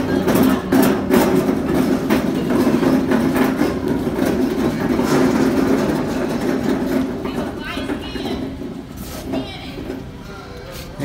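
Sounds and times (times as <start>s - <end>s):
cart frame rattling: 0.0s - 10.3s
cart casters rumbling on concrete: 0.0s - 11.0s.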